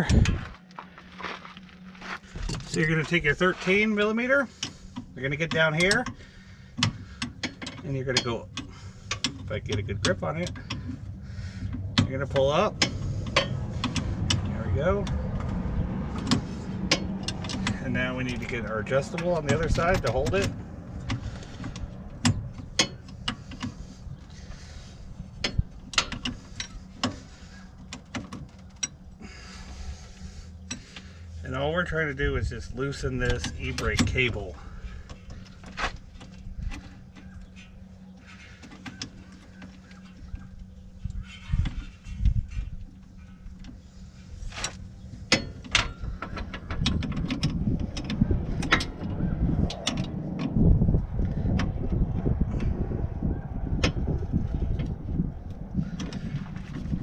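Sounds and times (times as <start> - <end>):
low rumble: 0.0 - 57.0
wrenches clicking on metal: 2.4 - 15.4, 16.1 - 50.7.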